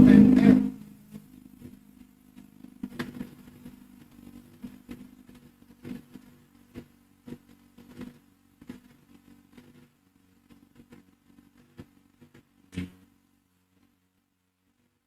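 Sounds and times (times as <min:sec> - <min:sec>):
motorcycle engine idling: 0:00.0 - 0:14.7.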